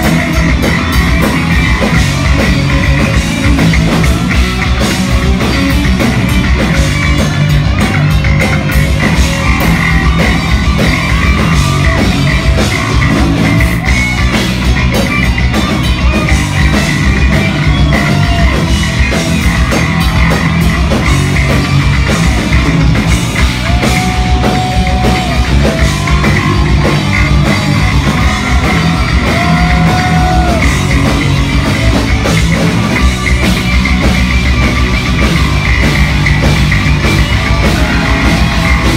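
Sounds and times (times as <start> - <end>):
bass guitar: 0.0 - 38.9
distorted electric guitar solo: 0.0 - 38.9
pounding drum kit: 0.0 - 38.9.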